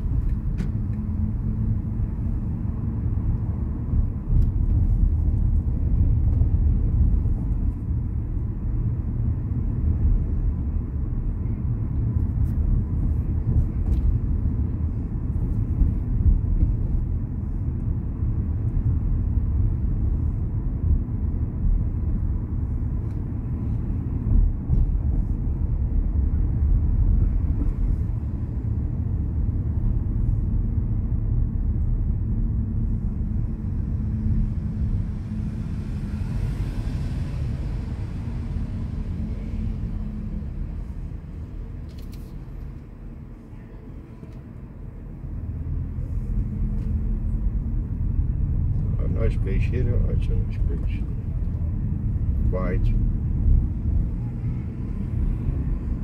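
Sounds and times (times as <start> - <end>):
car road and tyre noise: 0.0 - 56.0.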